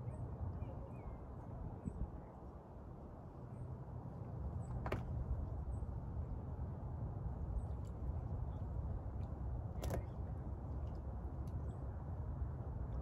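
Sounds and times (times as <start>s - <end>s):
low rumble of background noise: 0.0s - 13.0s.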